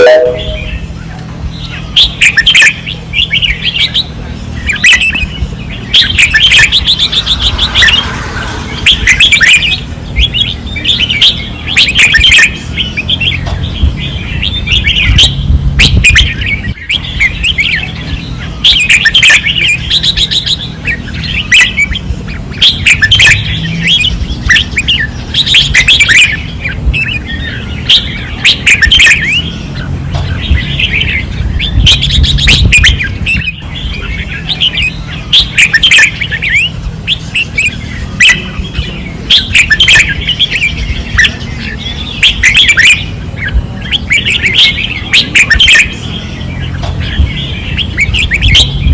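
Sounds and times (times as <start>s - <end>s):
caged birds singing: 0.0s - 48.9s.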